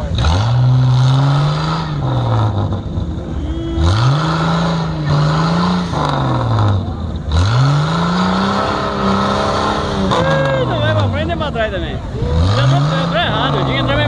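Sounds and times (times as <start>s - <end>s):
jeep engine revving hard: 0.0s - 14.0s.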